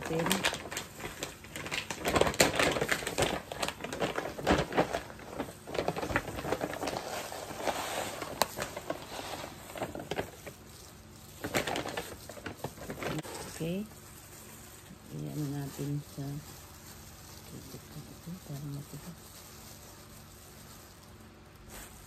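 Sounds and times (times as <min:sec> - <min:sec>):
dry shreds pattering into bowl: 0:00.0 - 0:22.0
plastic bag crinkling: 0:00.0 - 0:22.0.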